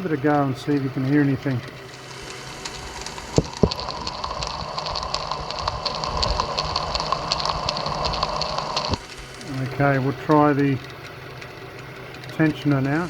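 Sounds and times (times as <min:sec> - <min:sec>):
pulley bearing hum and whine: 0:00.0 - 0:13.0
rapid irregular ticking: 0:00.0 - 0:13.0.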